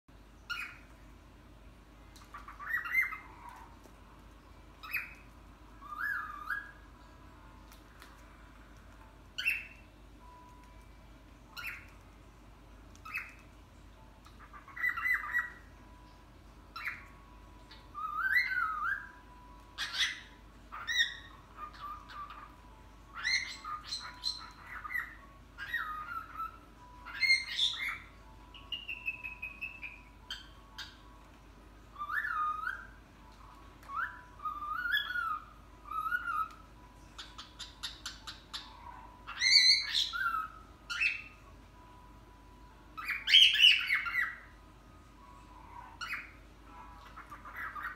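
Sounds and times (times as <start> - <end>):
cockatiels calling and whistling: 0.4 - 1.0, 2.2 - 3.9, 4.7 - 7.1, 9.3 - 10.8, 11.5 - 12.2, 12.9 - 13.6, 14.2 - 31.3, 31.9 - 42.3, 42.9 - 44.6, 45.2 - 47.9.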